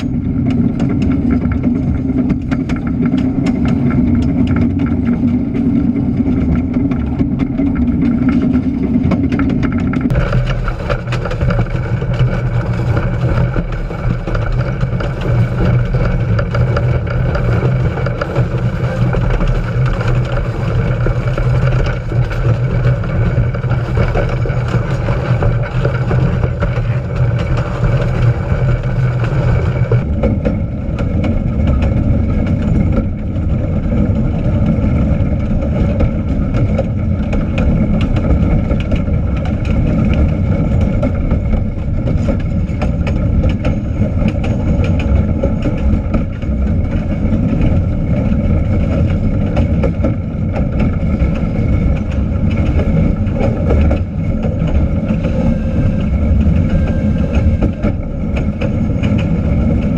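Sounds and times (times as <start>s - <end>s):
train clicks and rattles: 0.0s - 59.9s
train rumbling on track: 0.0s - 59.9s.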